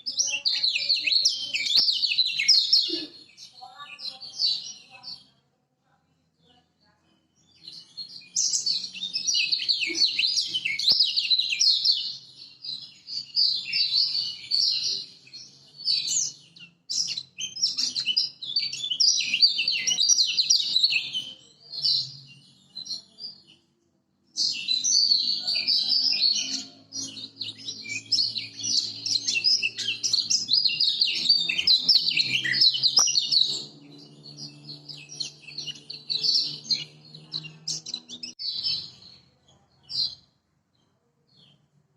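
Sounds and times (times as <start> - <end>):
bird twittering song: 0.0 - 5.4, 6.5 - 41.7.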